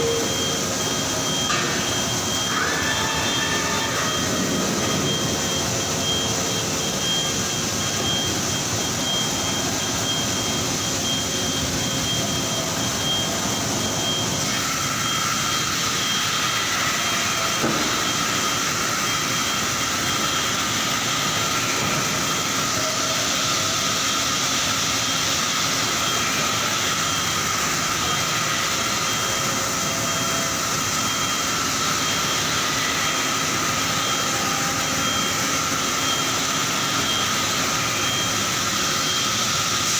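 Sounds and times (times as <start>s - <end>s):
factory machinery drone: 0.0s - 39.9s
machine whining tones: 0.0s - 39.9s.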